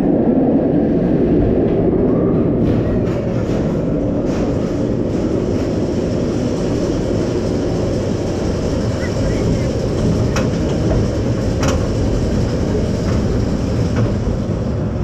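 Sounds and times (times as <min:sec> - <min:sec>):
roller coaster wheels rumbling: 0:00.0 - 0:15.0.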